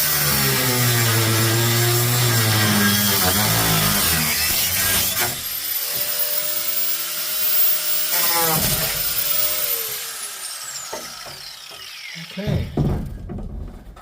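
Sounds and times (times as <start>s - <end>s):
power tool cutting sheet metal: 0.0s - 13.2s.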